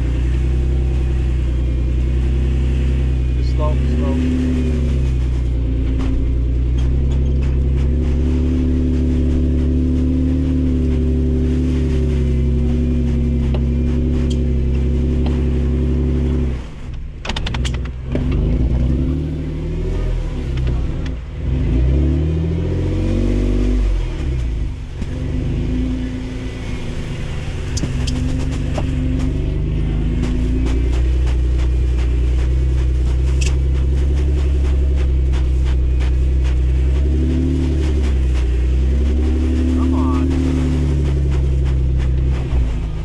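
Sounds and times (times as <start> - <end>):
truck engine idling and revving: 0.0 - 43.0.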